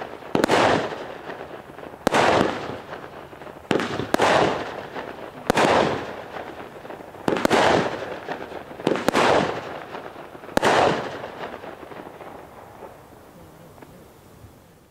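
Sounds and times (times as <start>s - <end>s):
fireworks bangs: 0.0s - 14.2s
firework hiss: 0.0s - 14.7s.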